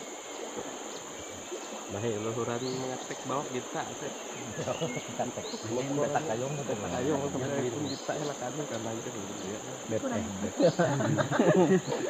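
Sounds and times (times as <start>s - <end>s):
forest insects droning: 0.0s - 12.0s
people's voices murmuring: 1.9s - 12.0s.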